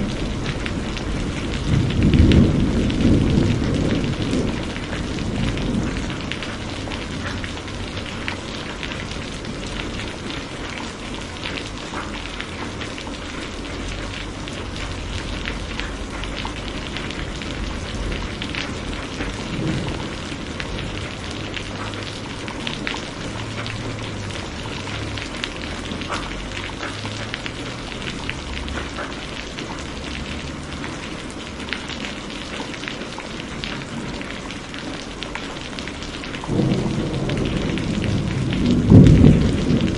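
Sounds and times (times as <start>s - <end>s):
heavy rain falling: 0.0s - 39.9s
thunder rumble: 0.0s - 39.9s.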